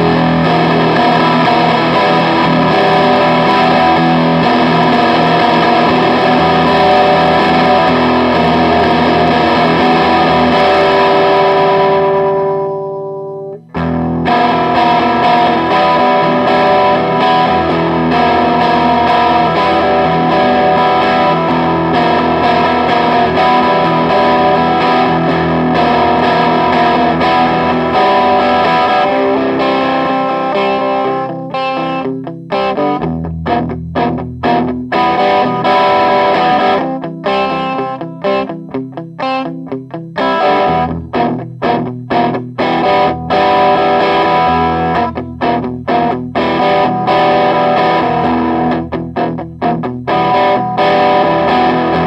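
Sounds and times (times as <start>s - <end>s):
distorted electric guitar chords: 0.0s - 52.0s.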